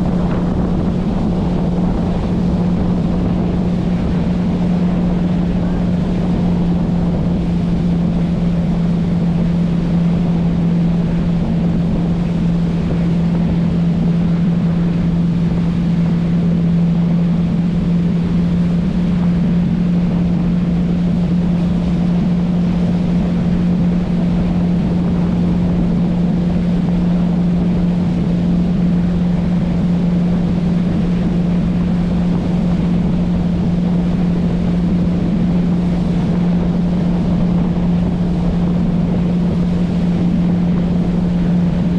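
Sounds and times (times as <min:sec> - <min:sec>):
motorboat engine humming: 0:00.0 - 0:41.9
rushing water noise: 0:00.0 - 0:41.9.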